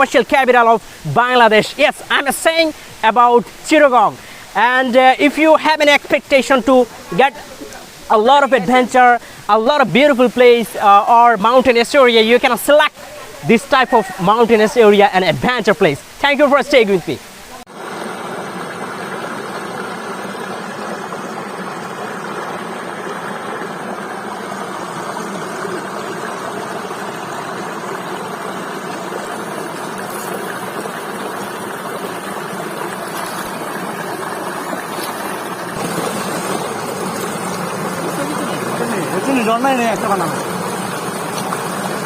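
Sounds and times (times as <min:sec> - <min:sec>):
waterfall rushing and splashing: 0:00.0 - 0:42.0.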